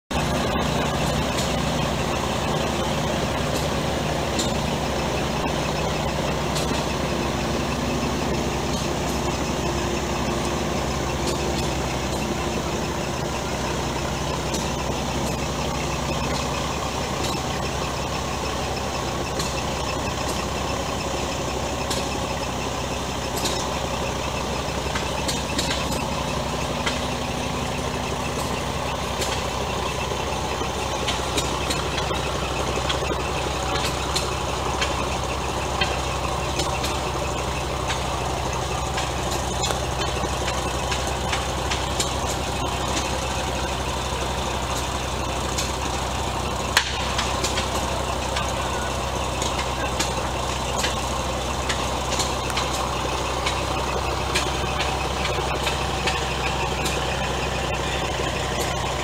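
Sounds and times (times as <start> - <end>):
engine humming: 0.0 - 59.0.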